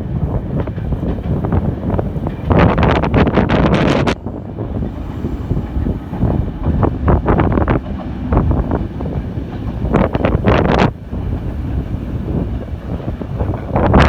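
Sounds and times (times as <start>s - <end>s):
train rumbling past: 0.0s - 14.0s
wind buffeting microphone: 0.0s - 14.0s.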